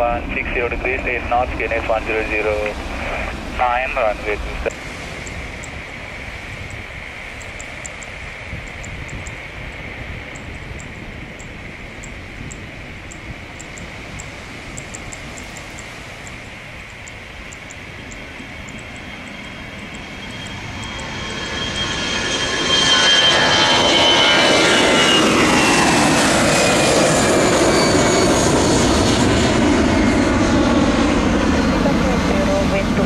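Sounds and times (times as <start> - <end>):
jet engine whine: 0.0 - 33.0
jet engines at take-off thrust: 0.0 - 33.0.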